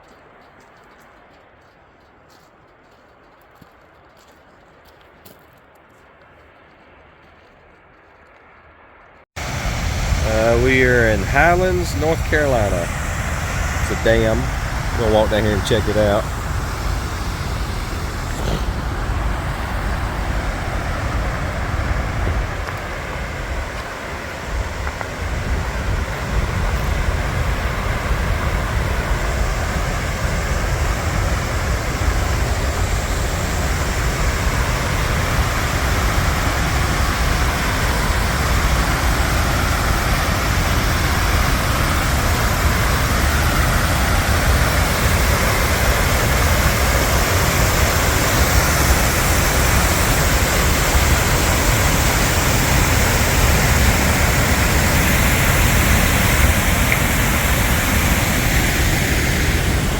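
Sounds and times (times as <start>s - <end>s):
water rushing over a dam: 9.4s - 59.9s.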